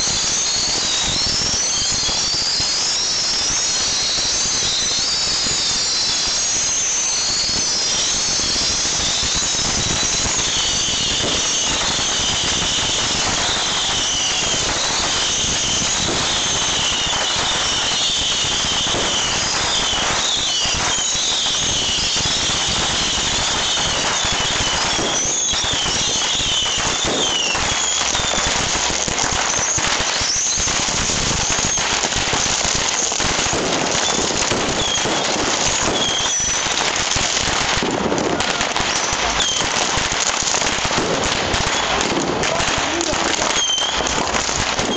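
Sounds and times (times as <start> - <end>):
high wavering rocket whistles: 0.0 - 44.9.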